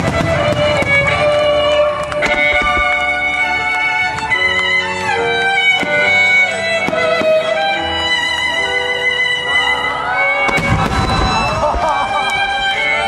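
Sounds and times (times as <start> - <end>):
violin melody with held notes: 0.0 - 13.0.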